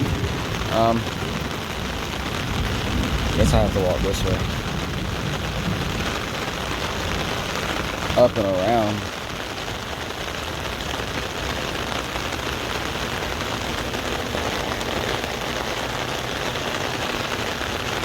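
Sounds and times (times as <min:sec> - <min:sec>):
heavy rain on an umbrella: 0:00.0 - 0:18.0.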